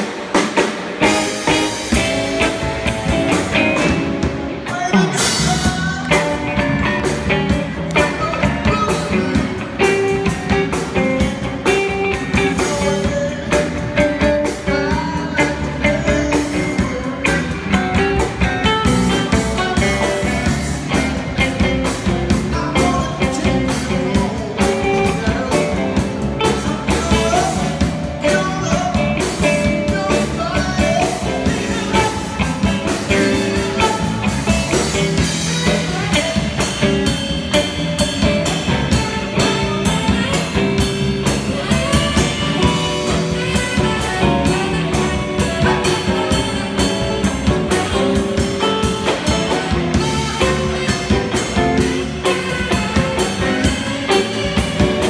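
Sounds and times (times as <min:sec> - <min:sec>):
rock and roll band playing: 0:00.0 - 0:55.0.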